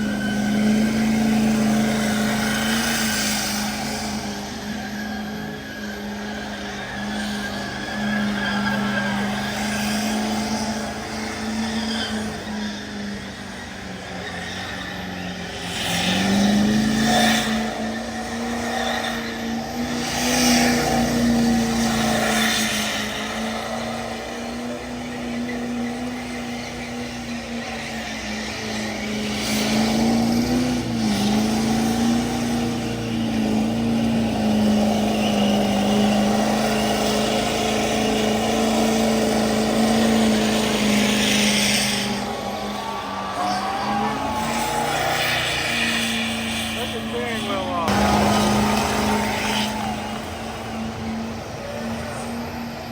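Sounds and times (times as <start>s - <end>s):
pickup truck engine at high revs: 0.0s - 52.9s
spinning tyres hissing: 0.0s - 52.9s.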